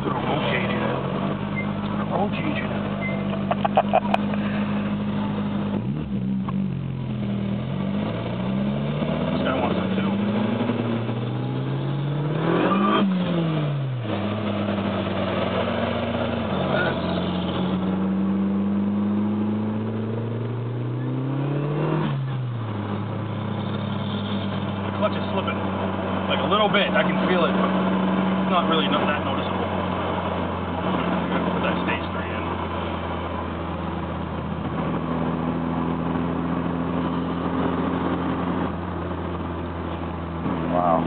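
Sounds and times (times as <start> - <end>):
car engine accelerating hard: 0.0 - 41.0.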